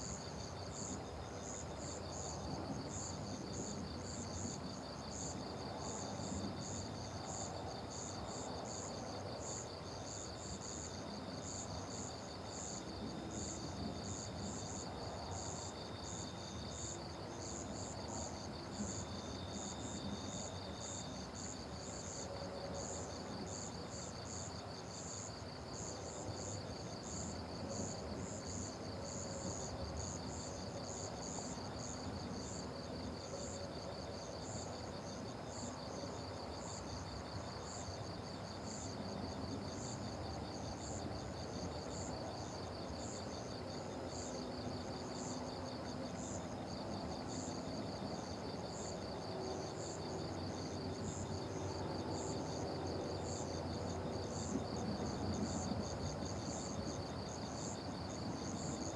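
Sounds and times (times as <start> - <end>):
high cricket chirp: 0.0 - 58.9.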